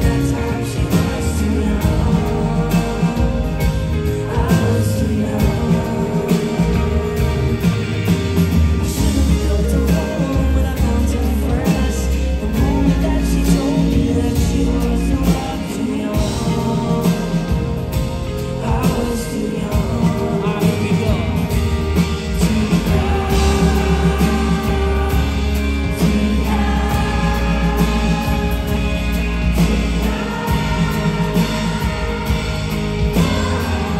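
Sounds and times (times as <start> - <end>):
acoustic guitar: 0.0 - 33.9
person singing: 0.0 - 33.9.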